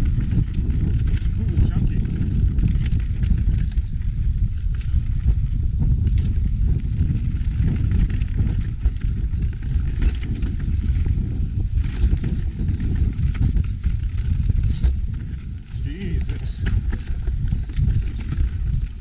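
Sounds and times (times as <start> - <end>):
bike rattling over stones: 0.0 - 19.0
wind buffeting microphone: 0.0 - 19.0.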